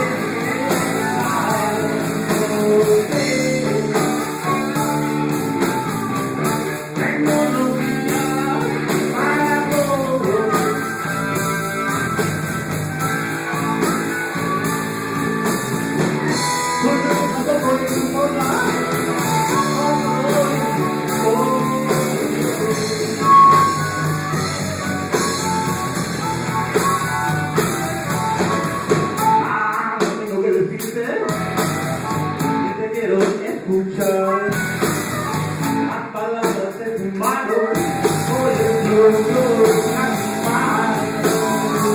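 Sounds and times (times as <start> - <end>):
live band with guitar and drums: 0.0 - 41.9.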